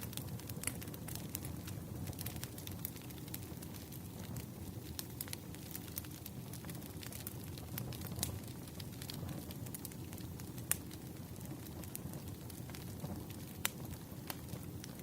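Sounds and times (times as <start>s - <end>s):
campfire flames rumbling: 0.0s - 15.0s
fire crackles and pops: 0.0s - 15.0s.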